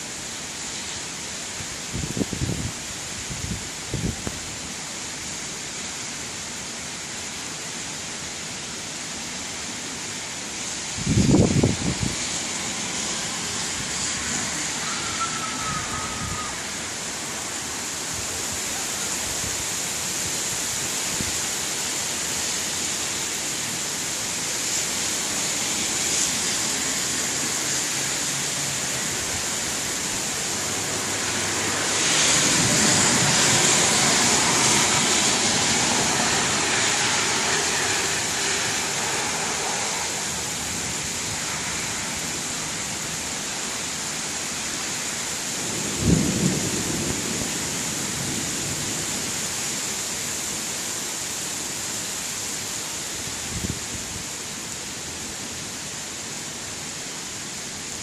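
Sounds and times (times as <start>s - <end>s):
gusting wind: 0.0s - 58.0s
heavy rain: 0.0s - 58.0s.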